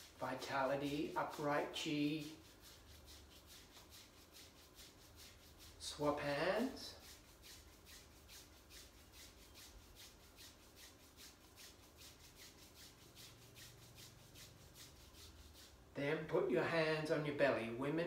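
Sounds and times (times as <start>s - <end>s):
palm rubbing skin: 0.0s - 15.9s.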